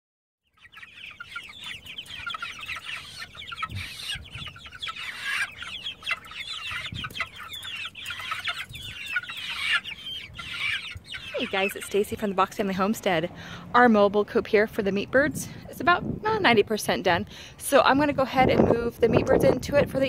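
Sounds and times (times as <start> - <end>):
chicks peeping and cheeping: 0.4 - 13.7, 14.3 - 20.0.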